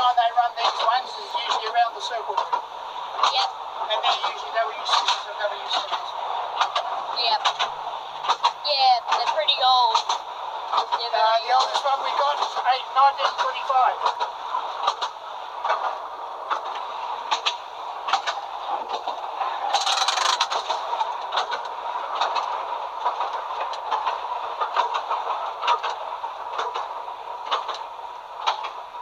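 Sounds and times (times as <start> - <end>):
tram running noise with whine: 0.0 - 29.0
wheels clicking over rail joints: 0.0 - 29.0.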